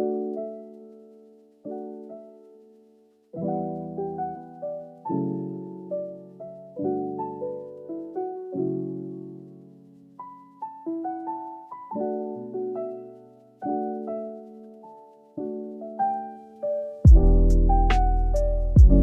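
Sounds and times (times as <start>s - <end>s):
gentle solo piano: 0.0s - 19.0s.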